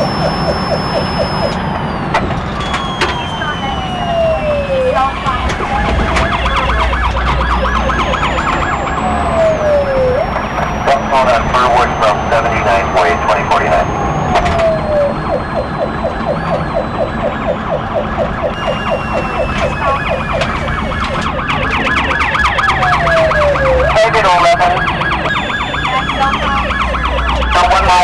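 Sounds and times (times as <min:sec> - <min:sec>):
engine and road rumble: 0:00.0 - 0:28.0
police siren yelping: 0:00.0 - 0:28.0
siren wailing: 0:00.0 - 0:28.0.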